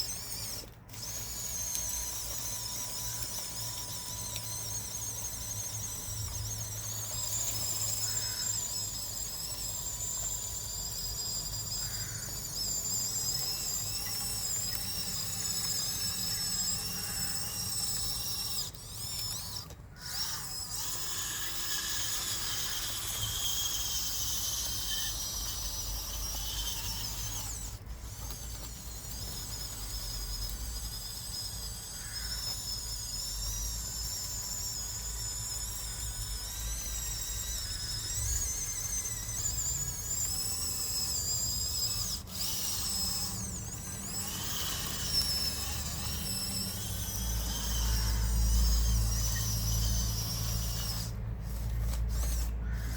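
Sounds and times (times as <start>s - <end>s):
electric motors and gearboxes whining: 0.0s - 52.9s.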